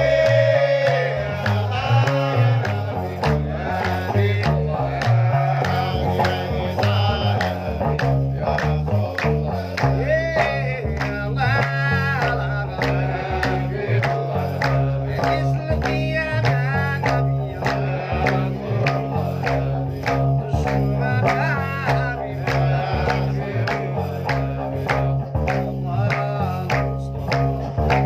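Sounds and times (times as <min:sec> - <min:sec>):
man singing: 0:00.0 - 0:28.0
plucked lute bass riff: 0:00.0 - 0:28.0
sharp percussive clicks: 0:00.0 - 0:28.0.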